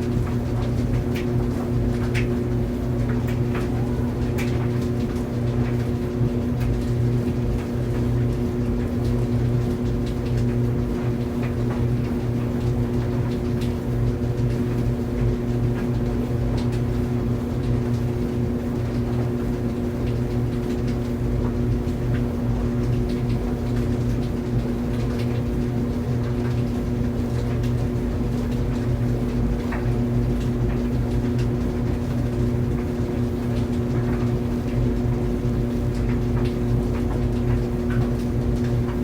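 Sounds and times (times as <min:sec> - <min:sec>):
tumble dryer running: 0:00.0 - 0:39.0.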